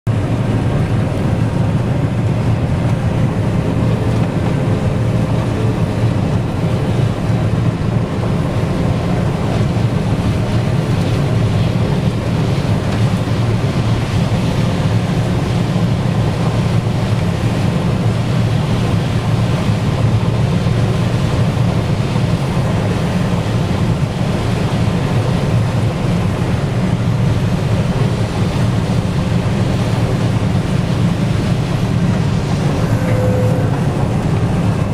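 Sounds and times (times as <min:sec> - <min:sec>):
combine harvester drone: 0:00.1 - 0:34.9.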